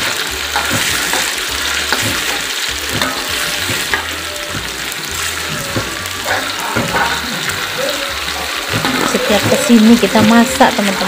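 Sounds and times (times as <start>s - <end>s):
spatula scraping and tapping pan: 0.0s - 7.7s, 8.3s - 11.0s
paste sizzling in hot oil: 0.0s - 11.0s.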